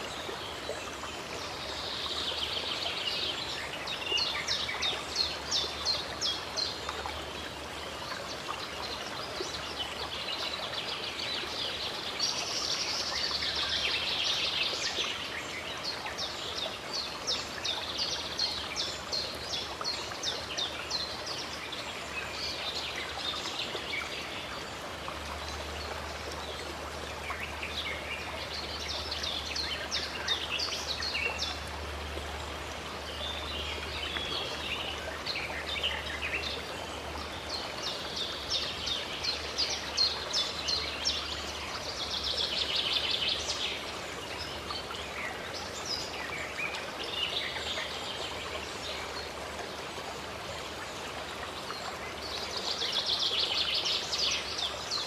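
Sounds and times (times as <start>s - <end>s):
songbirds chirping: 0.0s - 55.0s
stream water running: 0.0s - 55.0s.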